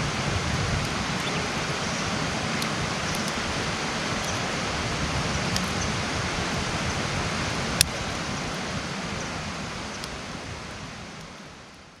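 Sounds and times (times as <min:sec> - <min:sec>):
campfire burning with hiss: 0:00.0 - 0:12.0
fire crackles and pop: 0:00.0 - 0:12.0.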